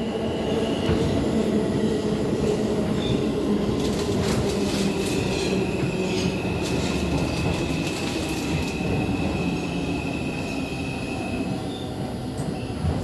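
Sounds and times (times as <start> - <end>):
subway car hum with high whine: 0.0 - 13.0.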